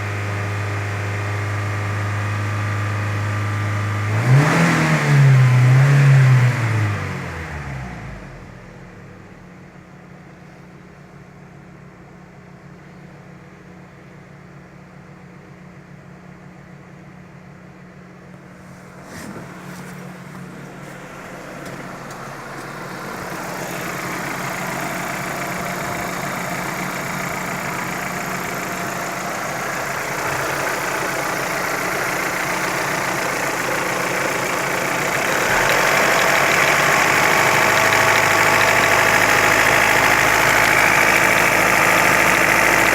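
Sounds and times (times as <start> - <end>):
car engine idling: 8.1 - 42.9.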